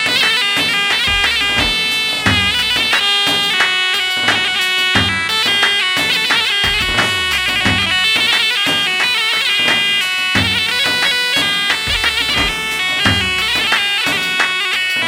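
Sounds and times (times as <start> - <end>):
deep drum beat: 0.0 - 15.0
reedy wind melody: 0.0 - 15.0.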